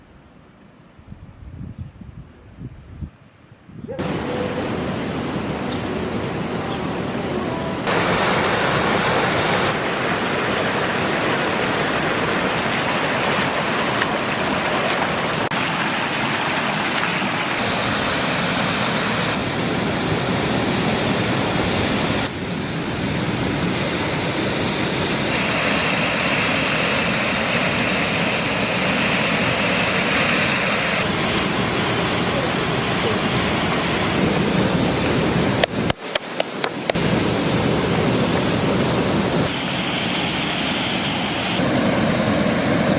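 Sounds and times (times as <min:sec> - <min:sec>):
steady rushing noise: 0:04.0 - 0:42.9.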